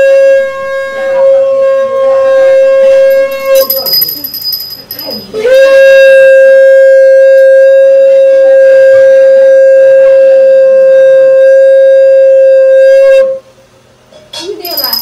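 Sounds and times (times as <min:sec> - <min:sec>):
conch shell blown: 0:00.0 - 0:04.1, 0:05.4 - 0:13.6.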